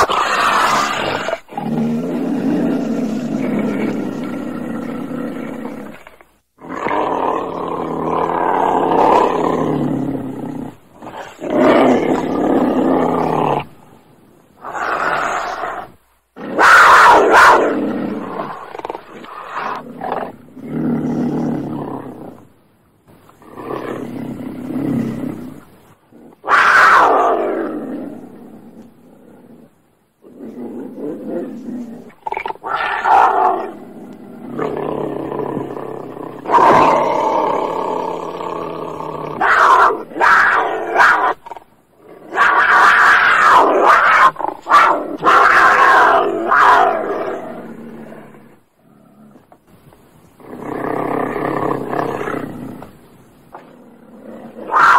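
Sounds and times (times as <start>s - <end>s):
cougar roaring and snarling: 0.0s - 13.9s, 14.6s - 22.4s, 23.4s - 49.5s, 50.4s - 52.9s, 53.5s - 54.9s.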